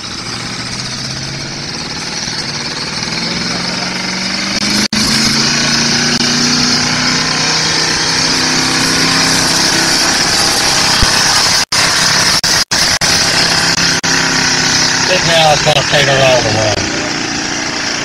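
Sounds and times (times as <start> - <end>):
truck engine revving hard: 0.0 - 18.0.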